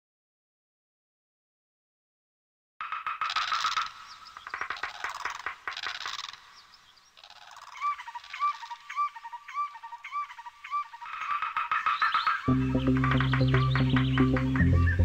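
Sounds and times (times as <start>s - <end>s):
small birds chirping: 2.9s - 15.0s.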